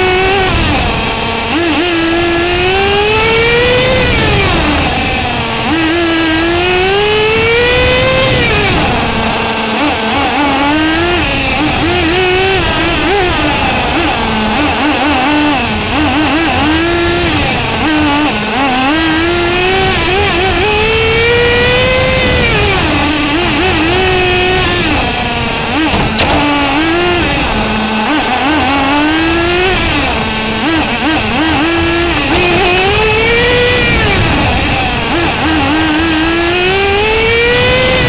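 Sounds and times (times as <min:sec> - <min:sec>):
rc car nitro engine revving: 0:00.0 - 0:38.0.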